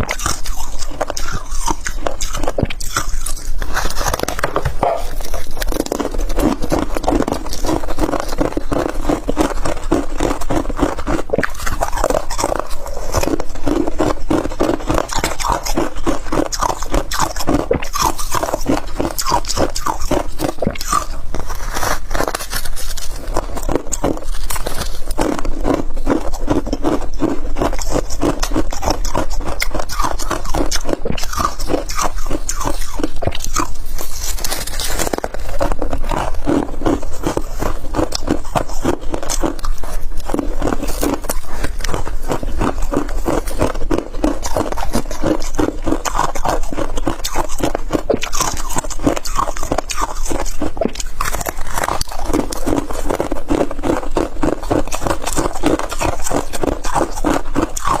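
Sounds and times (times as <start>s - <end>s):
chewing ice crunches: 0.0s - 58.0s.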